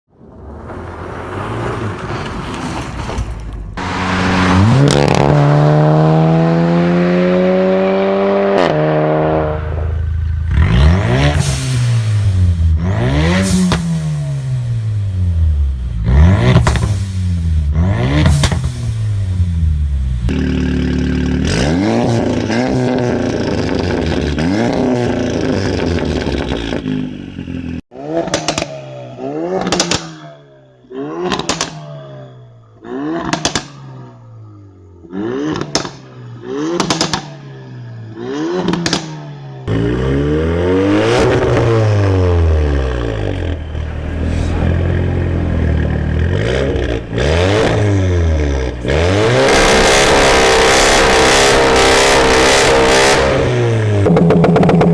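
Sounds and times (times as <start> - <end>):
car engine revving: 3.7 - 30.2, 30.8 - 54.9.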